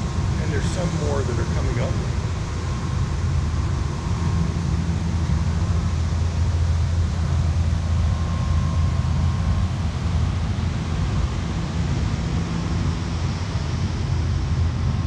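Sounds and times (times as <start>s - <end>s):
air conditioning hum and air rush: 0.0s - 15.0s.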